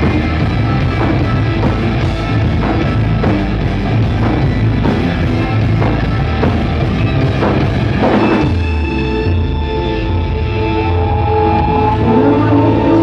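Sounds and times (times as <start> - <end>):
distorted electric guitars: 0.0 - 13.0
drum kit: 0.0 - 13.0.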